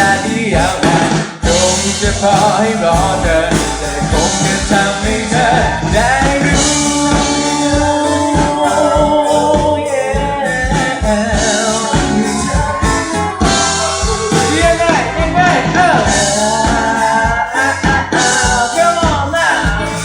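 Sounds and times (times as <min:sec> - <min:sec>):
live band playing pop ballad: 0:00.0 - 0:20.0.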